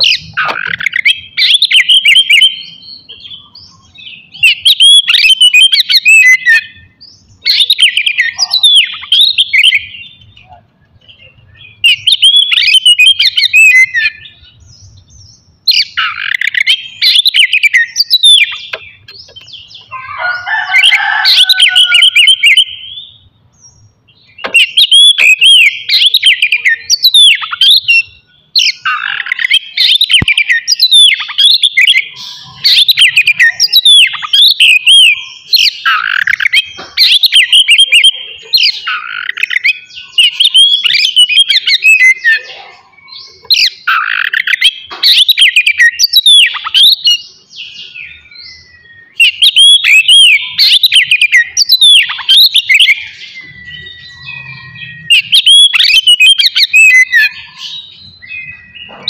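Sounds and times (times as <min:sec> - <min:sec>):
magpie-robin singing: 0:00.0 - 0:59.0.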